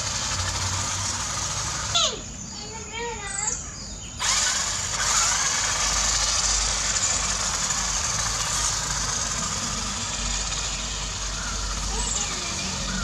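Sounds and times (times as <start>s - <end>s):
toy car electric motor whining: 0.0s - 3.6s, 4.2s - 13.0s.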